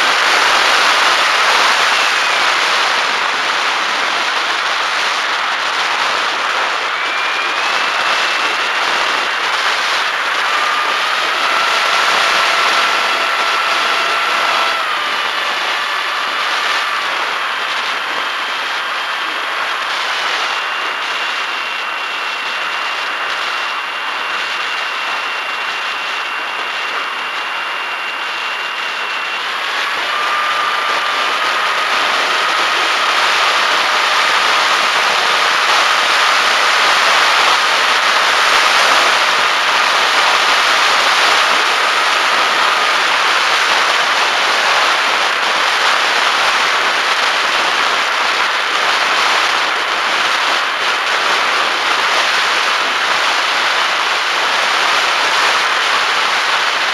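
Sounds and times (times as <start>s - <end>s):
electric motor whine: 0.0s - 56.9s.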